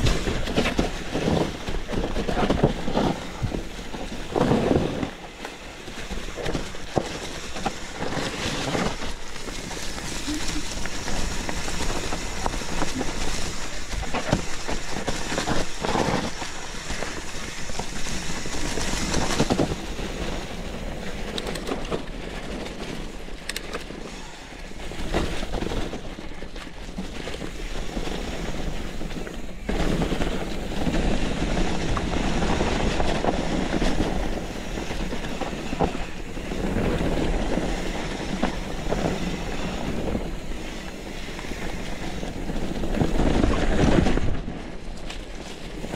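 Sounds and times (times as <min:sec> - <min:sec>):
bike tyres on dirt and roots: 0:00.0 - 0:45.9
wind rumbling on microphone: 0:00.0 - 0:45.9.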